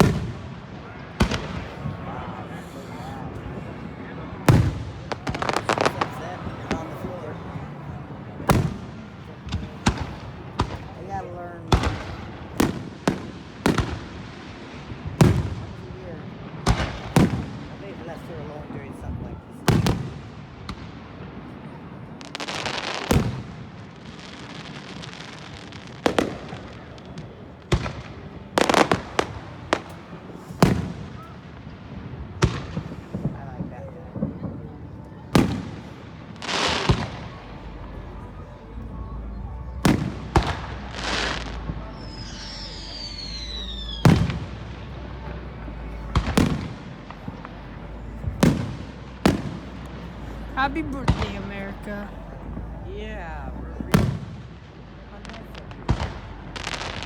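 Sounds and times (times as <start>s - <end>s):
fireworks booming: 0.0s - 38.6s, 39.7s - 57.0s
fireworks crackling: 0.0s - 57.0s.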